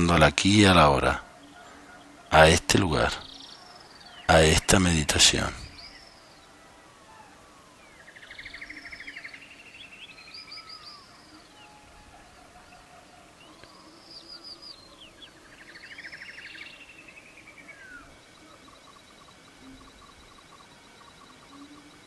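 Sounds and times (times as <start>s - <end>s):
birds chirping and trilling: 0.0s - 22.0s.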